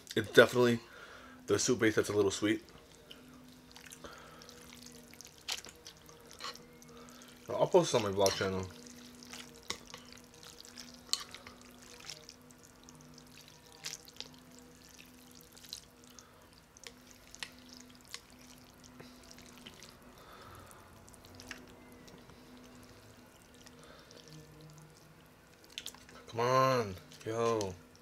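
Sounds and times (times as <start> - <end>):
faint steady hum: 0.0 - 28.0
broth dripping and splashing: 2.8 - 26.3.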